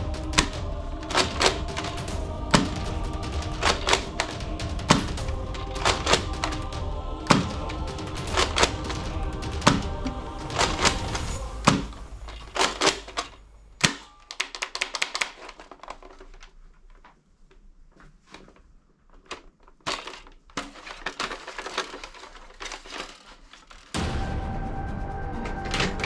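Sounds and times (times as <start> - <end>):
plastic toy guns clicking: 0.3 - 17.1, 19.1 - 23.9.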